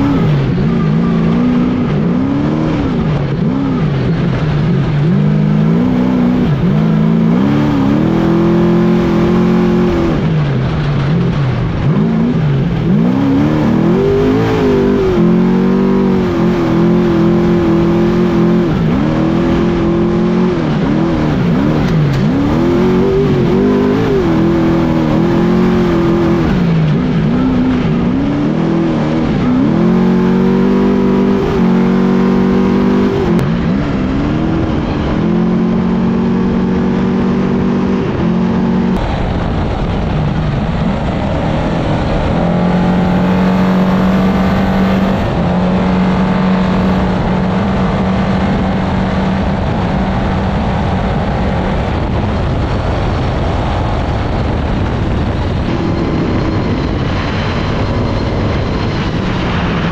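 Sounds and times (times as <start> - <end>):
race engine revving: 0.0 - 59.9.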